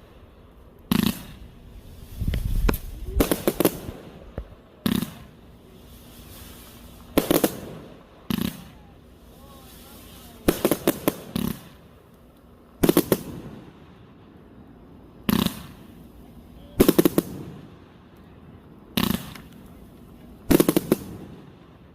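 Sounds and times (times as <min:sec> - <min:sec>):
fireworks cracking: 0:00.7 - 0:21.9.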